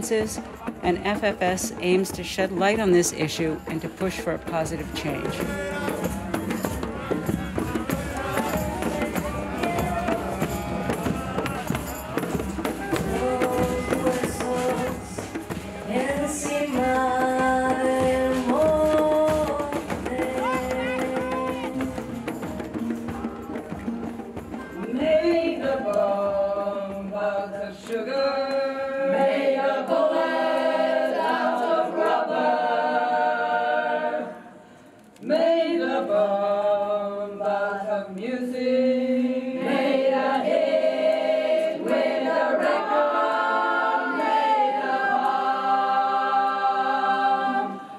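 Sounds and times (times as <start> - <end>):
voices singing in harmony: 4.7 - 47.9.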